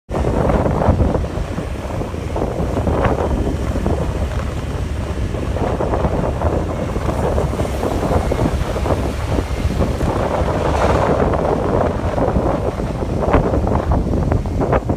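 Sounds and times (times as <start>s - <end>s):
wind buffeting microphone: 0.1s - 14.9s.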